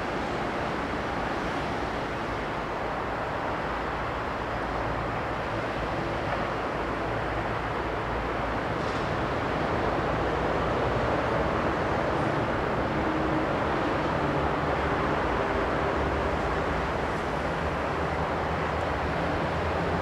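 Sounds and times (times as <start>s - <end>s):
outdoor background rumble and hiss: 0.0s - 20.0s.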